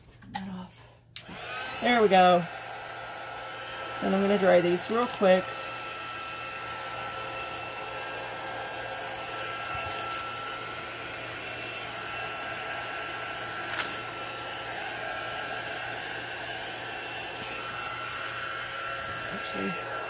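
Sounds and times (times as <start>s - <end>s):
heat tool blowing with whine: 1.2s - 20.0s.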